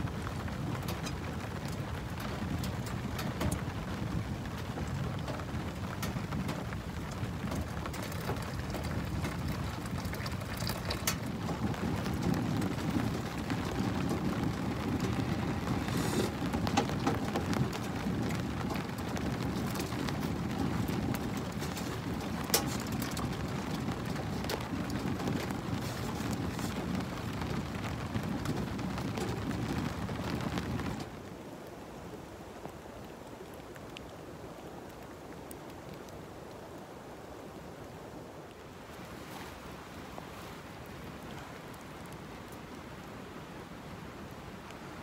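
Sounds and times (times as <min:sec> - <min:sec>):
rain on tent canvas: 0:00.0 - 0:45.0.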